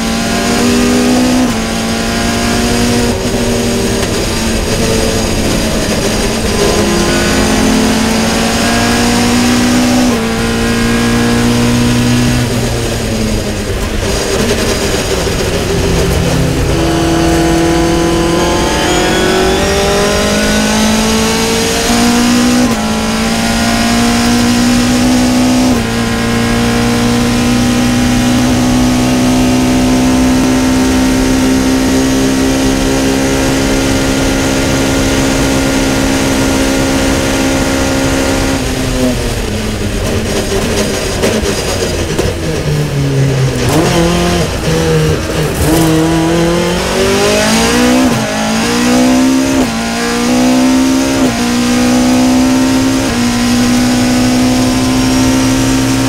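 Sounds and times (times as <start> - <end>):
car engine revving and shifting: 0.0 - 56.0.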